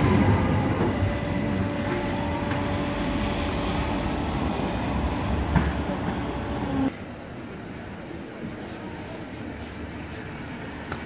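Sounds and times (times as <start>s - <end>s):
street traffic: 0.0s - 11.0s
tram electric hum and rolling: 0.0s - 11.0s.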